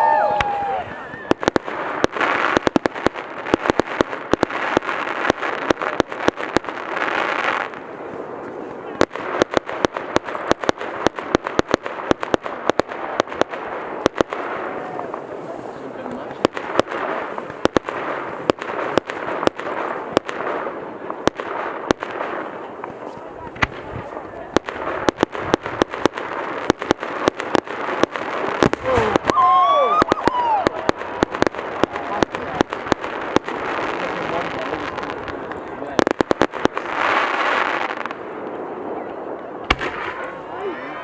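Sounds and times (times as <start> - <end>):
fireworks bangs and cracks: 0.0 - 41.0.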